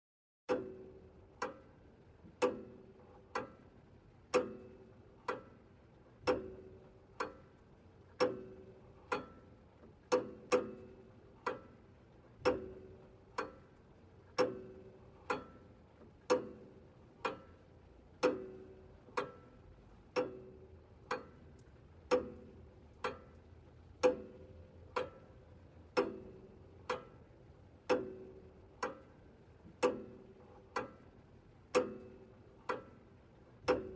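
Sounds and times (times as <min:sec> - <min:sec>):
pendulum clock ticking: 0:00.5 - 0:01.7, 0:02.4 - 0:03.7, 0:04.3 - 0:07.6, 0:08.2 - 0:33.9.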